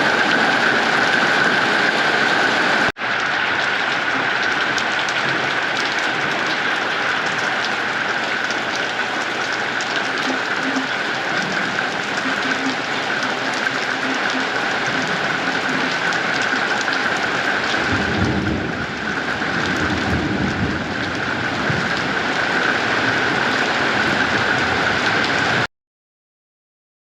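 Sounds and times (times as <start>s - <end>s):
steady rain pouring: 0.0s - 25.7s
thunder rumbling: 4.0s - 25.6s.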